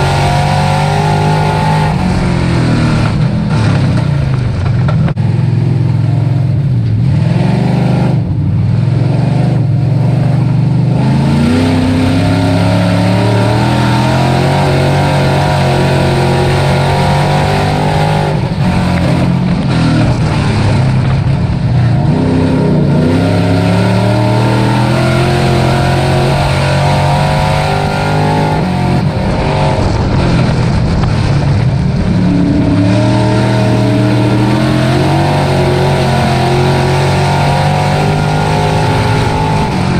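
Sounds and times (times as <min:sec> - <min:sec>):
race truck engine accelerating: 0:00.0 - 0:39.9.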